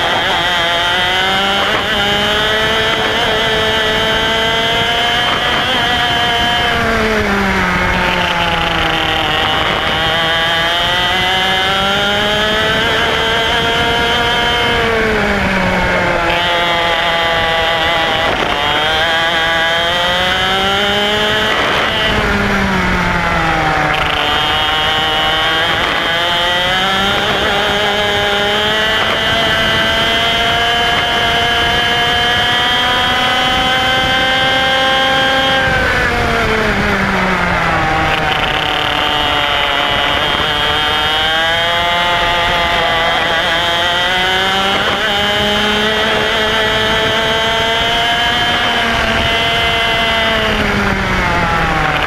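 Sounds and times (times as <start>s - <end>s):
kart engine revving: 0.0s - 52.0s.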